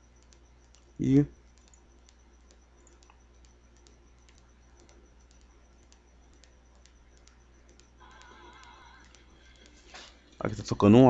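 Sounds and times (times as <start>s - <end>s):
computer mouse and keyboard clicks: 0.0s - 10.7s
faint wavering tone: 0.0s - 11.0s
low steady hum: 0.0s - 11.0s.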